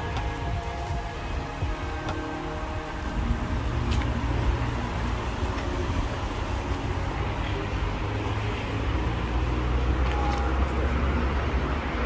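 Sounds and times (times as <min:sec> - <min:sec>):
low rumble of cars: 0:00.0 - 0:12.0.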